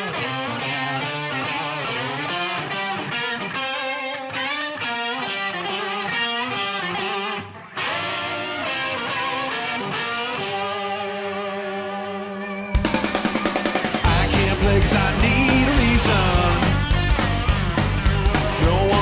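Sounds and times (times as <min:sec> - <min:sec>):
distorted electric guitar riff: 0:00.0 - 0:19.0.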